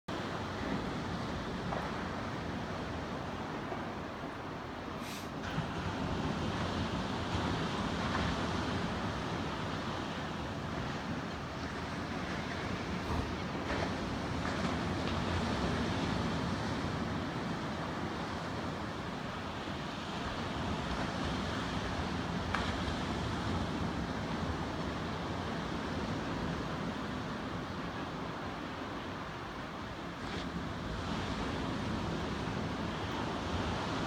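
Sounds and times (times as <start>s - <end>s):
wind buffeting microphone: 0.1s - 27.9s
ocean surf breaking: 0.1s - 34.0s.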